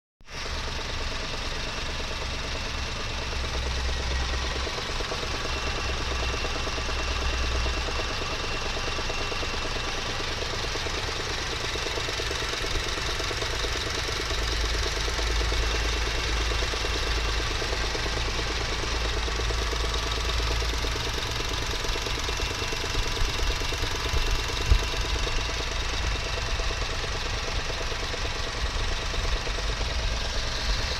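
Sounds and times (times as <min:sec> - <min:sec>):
car engine idling: 0:00.3 - 0:30.9
fast knocking rattle: 0:00.4 - 0:30.9.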